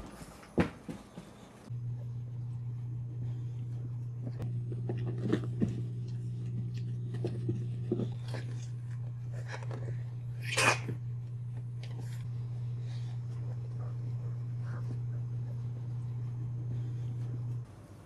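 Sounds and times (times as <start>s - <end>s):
dogs playing and scuffling: 0.0s - 18.0s
steady low hum: 0.0s - 18.0s.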